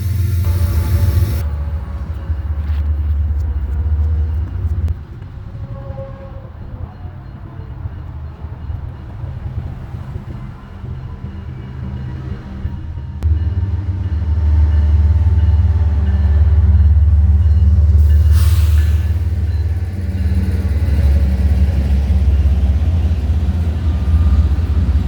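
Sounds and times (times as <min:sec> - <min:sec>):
diesel locomotive engines rumbling: 0:00.0 - 0:25.0.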